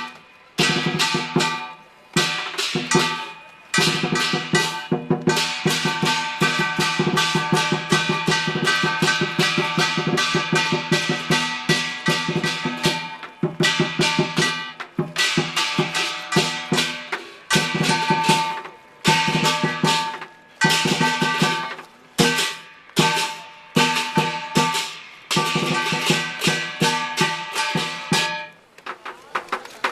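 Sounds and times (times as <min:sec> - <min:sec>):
cymbals ringing: 0:00.0 - 0:28.6
drum beating fast rhythm: 0:00.0 - 0:29.9.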